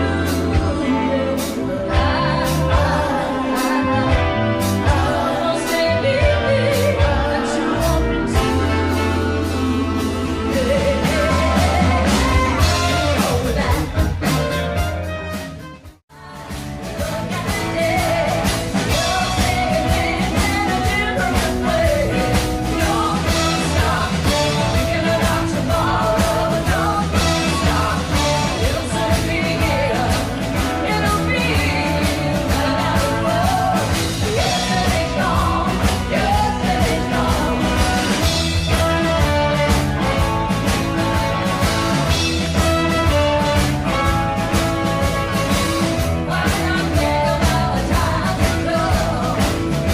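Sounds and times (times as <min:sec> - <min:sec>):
rock and roll song with singer: 0:00.0 - 0:49.9.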